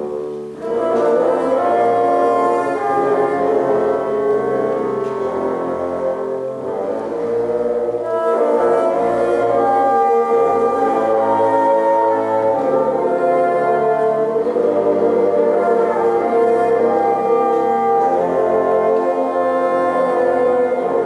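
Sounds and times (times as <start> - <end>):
reed ensemble playing slow ballad: 0.0 - 21.0.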